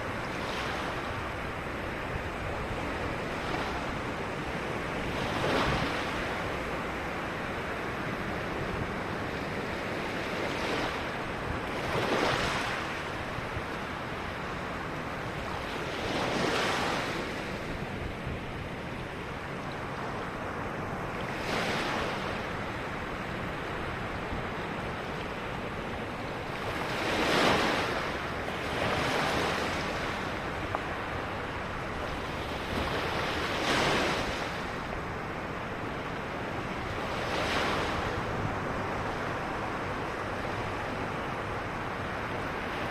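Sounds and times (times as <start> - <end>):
ocean waves breaking: 0.0 - 42.9.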